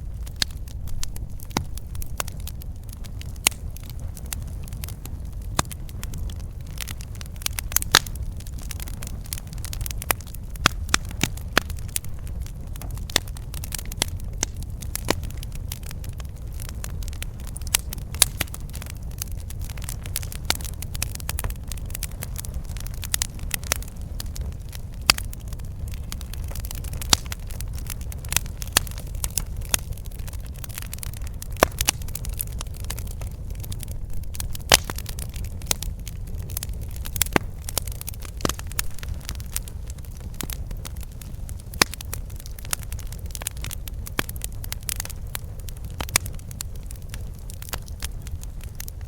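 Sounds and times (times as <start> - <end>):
low rumble of flames: 0.0 - 49.0
wood crackling and popping: 0.0 - 49.0.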